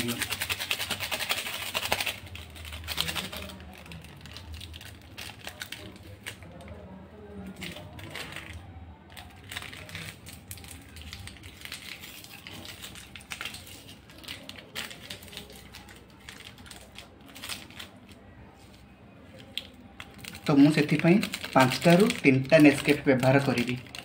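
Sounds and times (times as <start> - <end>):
foil sachet crinkling: 0.0 - 6.8, 7.4 - 18.3, 19.4 - 24.0.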